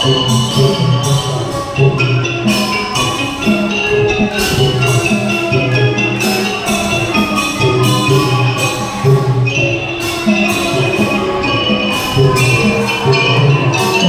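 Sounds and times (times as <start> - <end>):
low sustained tones: 0.0 - 14.0
ringing metallic gong notes: 0.0 - 14.0.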